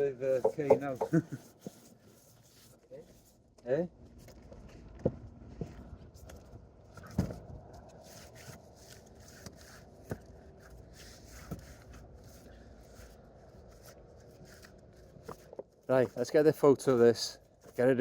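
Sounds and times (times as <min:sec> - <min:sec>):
light knocks and scrapes: 0:00.0 - 0:03.4, 0:04.2 - 0:16.2.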